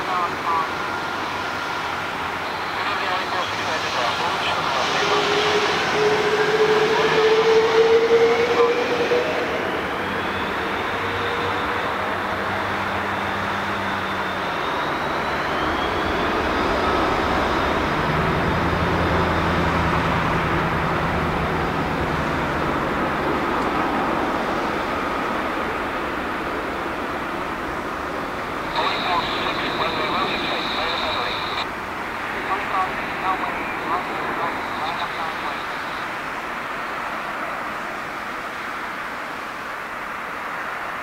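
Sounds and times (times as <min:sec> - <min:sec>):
jet engine roar: 0:00.0 - 0:41.0
jet fan whine: 0:00.0 - 0:41.0.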